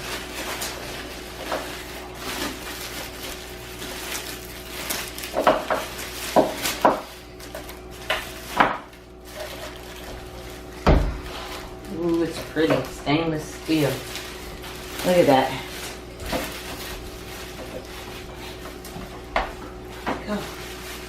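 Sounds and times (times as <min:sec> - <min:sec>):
packaging rustling: 0:00.0 - 0:21.0.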